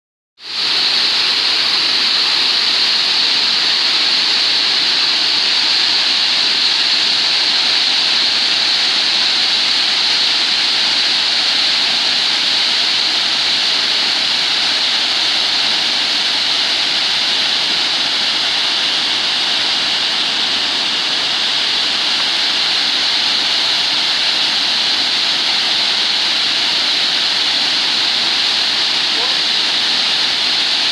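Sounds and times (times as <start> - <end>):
waterfall rushing: 0.4 - 30.9.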